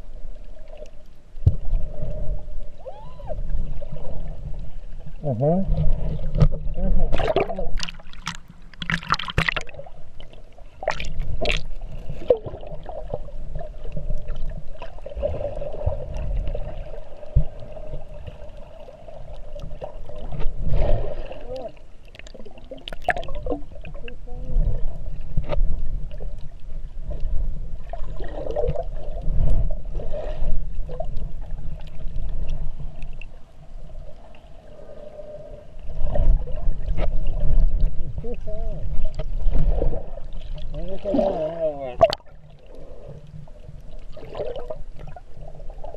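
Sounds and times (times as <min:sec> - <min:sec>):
underwater sloshing and gurgling: 0:00.0 - 0:45.9.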